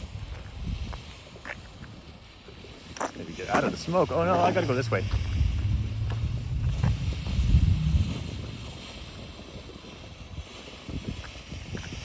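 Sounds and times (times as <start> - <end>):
fountain firework hissing: 0.0 - 12.0
wind buffeting microphone: 0.0 - 12.0.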